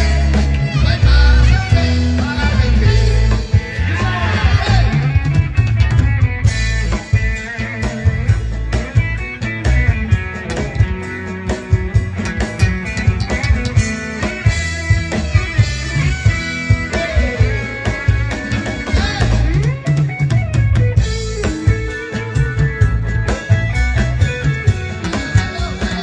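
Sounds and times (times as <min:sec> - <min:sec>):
bass guitar: 0:00.0 - 0:26.0
drum kit: 0:00.0 - 0:26.0
electric guitar lines: 0:00.0 - 0:26.0.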